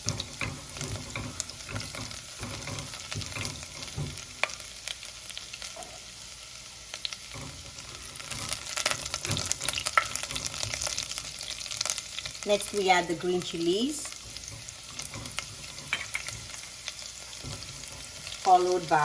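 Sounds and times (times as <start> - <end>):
frying sizzle with crackles: 0.0 - 19.0.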